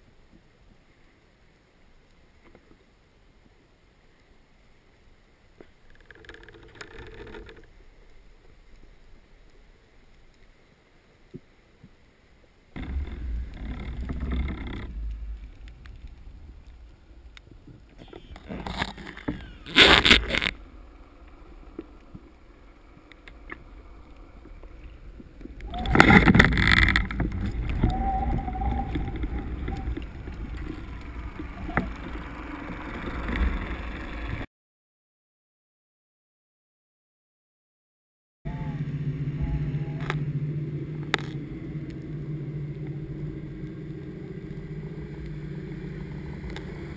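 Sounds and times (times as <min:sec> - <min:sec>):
underwater rushing water: 0:00.0 - 0:34.4, 0:38.5 - 0:46.9.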